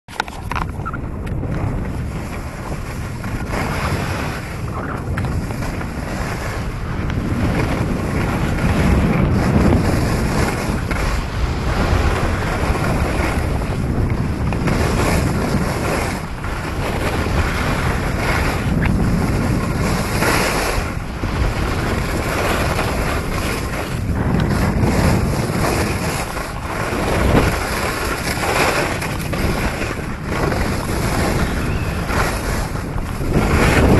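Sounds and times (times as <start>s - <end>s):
skis sliding over snow: 0.1s - 33.9s
wind rushing over microphone: 0.1s - 33.9s.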